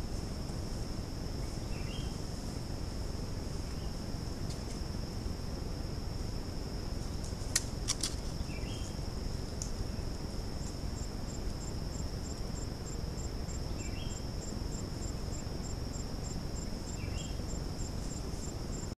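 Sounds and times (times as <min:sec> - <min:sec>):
insects high-pitched drone: 0:00.0 - 0:19.0
regular insect chirp: 0:00.0 - 0:19.0.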